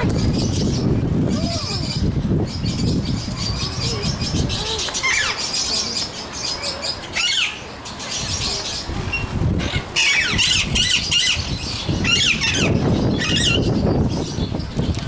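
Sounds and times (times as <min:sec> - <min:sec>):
birds chirping rapidly: 0:00.0 - 0:14.9.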